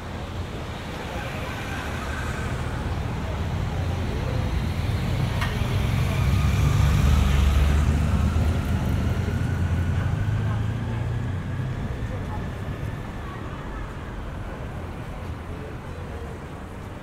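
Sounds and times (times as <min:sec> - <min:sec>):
road traffic: 0:00.0 - 0:17.0
vehicle engine rumble approaching: 0:00.2 - 0:17.0.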